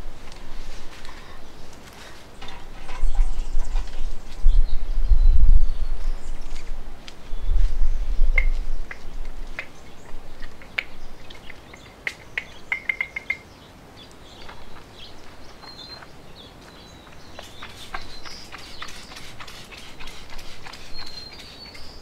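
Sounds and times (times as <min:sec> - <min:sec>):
small birds chirping: 0:00.9 - 0:22.0.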